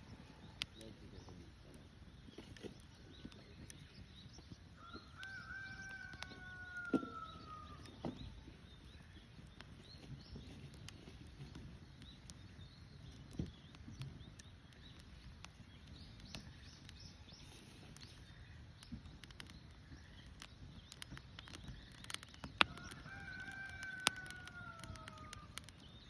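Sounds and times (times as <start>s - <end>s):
sharp clicks and pops: 0.0s - 26.0s
small birds chirping: 0.0s - 26.0s.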